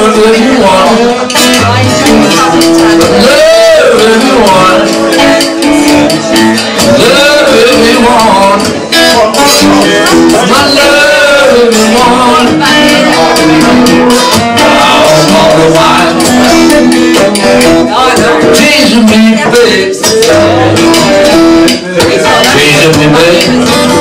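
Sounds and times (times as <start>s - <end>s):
acoustic guitars strumming: 0.0s - 24.0s.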